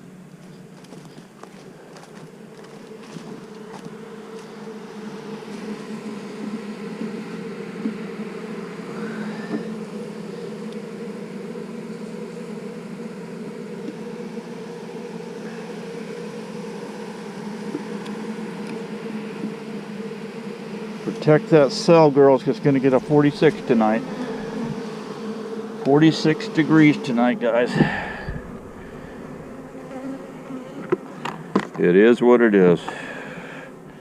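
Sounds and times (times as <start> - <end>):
honeybees humming: 0.0 - 34.0.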